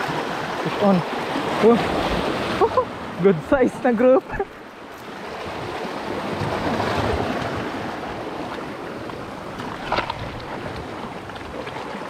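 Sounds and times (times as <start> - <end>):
sea surf washing against rocks: 0.0 - 12.0.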